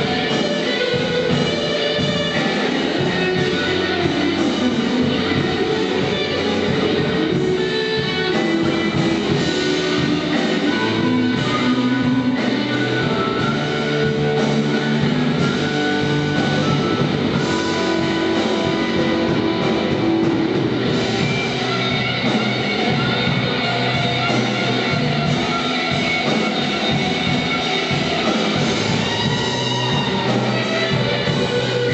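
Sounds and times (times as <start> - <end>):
rock band playing: 0.0 - 31.9.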